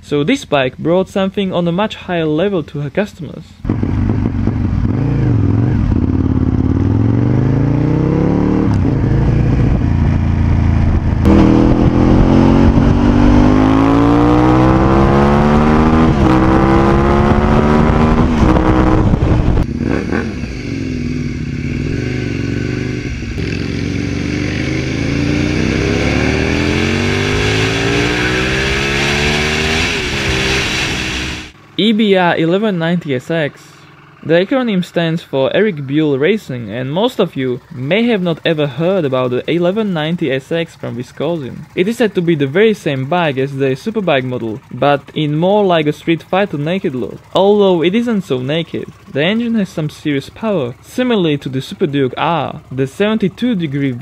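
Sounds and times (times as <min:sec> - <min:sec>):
motorcycle engine accelerating: 0:03.6 - 0:54.0.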